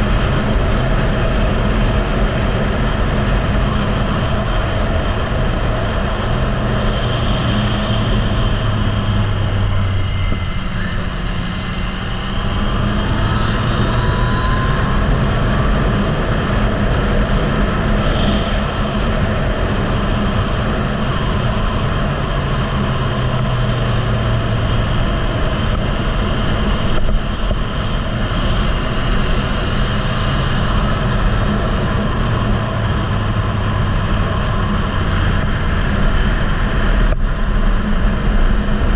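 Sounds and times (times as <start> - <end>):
wind noise on microphone: 0.0 - 38.9
motorcycle engine revving: 1.8 - 37.2.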